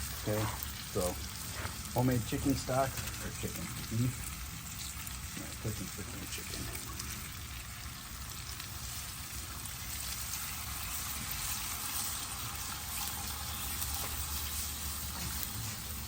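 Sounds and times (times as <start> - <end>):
food sizzling in a pan: 0.0 - 16.0
liquid pouring into hot pan: 0.0 - 16.0.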